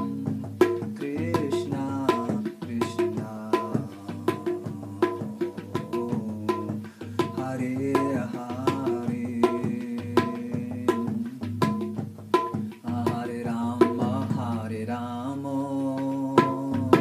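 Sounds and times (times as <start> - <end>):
man chanting: 0.0 - 12.0, 12.8 - 17.0
drum beat: 0.0 - 15.2, 15.8 - 17.0.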